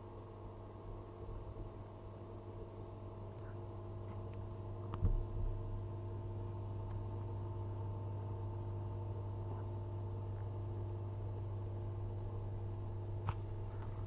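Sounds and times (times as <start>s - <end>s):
aquarium water pump hum: 0.0s - 14.0s.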